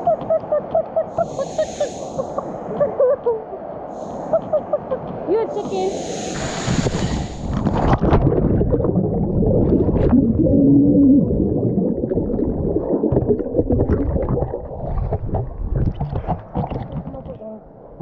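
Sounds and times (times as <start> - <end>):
water rumbling and gurgling: 2.2 - 18.0.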